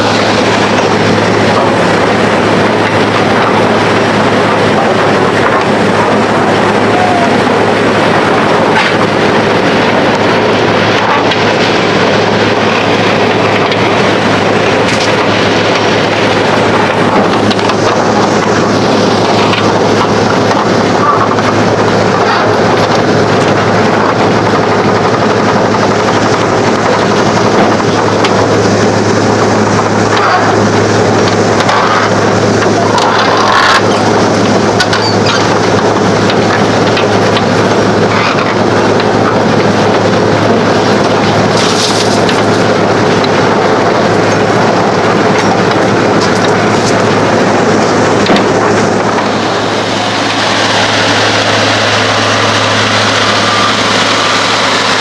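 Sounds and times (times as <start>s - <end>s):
grinder machinery running: 0.0s - 55.0s.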